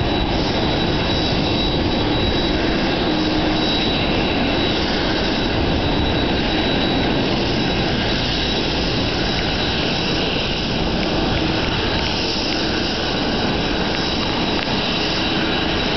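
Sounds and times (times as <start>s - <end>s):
jet engines with high whine: 0.0s - 15.9s.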